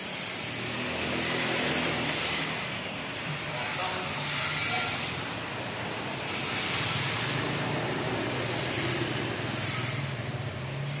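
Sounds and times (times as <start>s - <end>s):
loud rushing noise: 0.0s - 11.0s
motor tricycle engine droning: 0.0s - 11.0s.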